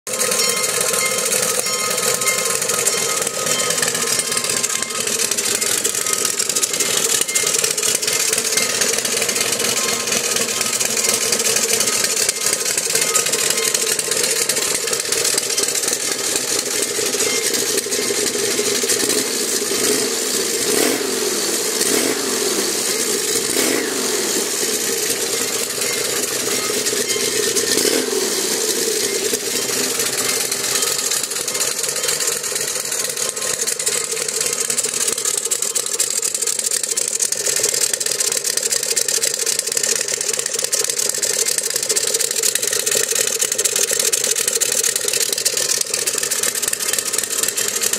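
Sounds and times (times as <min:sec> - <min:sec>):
steady ringing tone: 0:00.1 - 0:20.6, 0:22.5 - 0:47.9
motorcycle engine running: 0:00.1 - 0:47.9.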